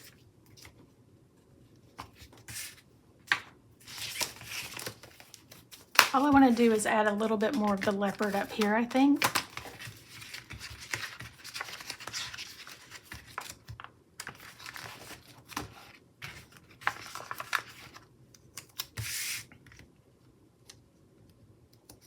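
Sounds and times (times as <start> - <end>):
paper crinkling and rustling: 1.9 - 19.9.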